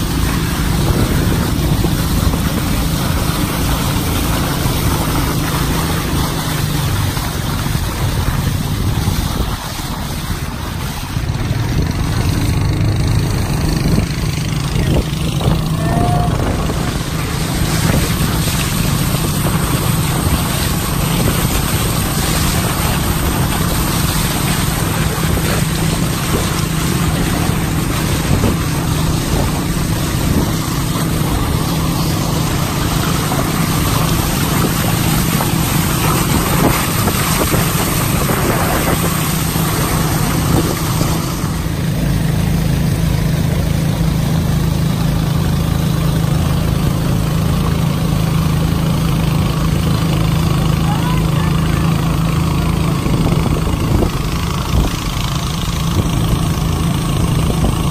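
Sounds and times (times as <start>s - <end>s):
wind noise: 0.0s - 44.4s, 51.8s - 57.9s
motorboat engine drone: 0.0s - 57.9s
water splashing along hull: 0.0s - 57.9s.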